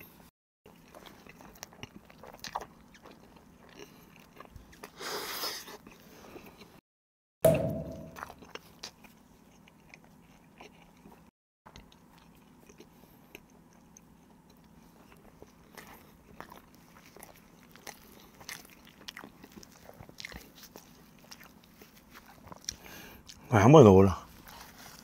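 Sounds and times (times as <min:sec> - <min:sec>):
chewing mouth sounds: 0:00.7 - 0:06.8, 0:08.1 - 0:23.5.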